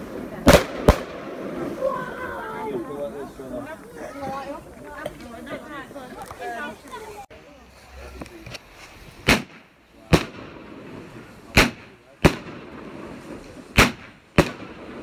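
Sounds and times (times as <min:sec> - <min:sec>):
fireworks bangs: 0:00.0 - 0:07.0, 0:08.0 - 0:15.0.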